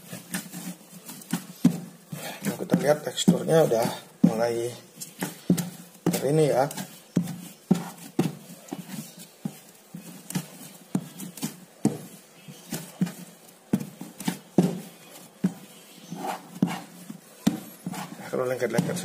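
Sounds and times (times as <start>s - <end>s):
dough kneading thuds: 0.0s - 19.0s.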